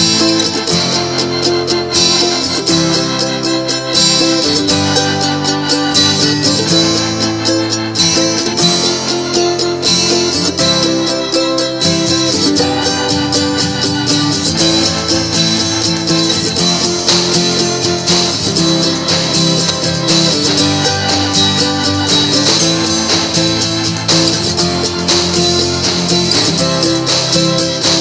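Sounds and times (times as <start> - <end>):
strummed acoustic guitar music: 0.0 - 28.0.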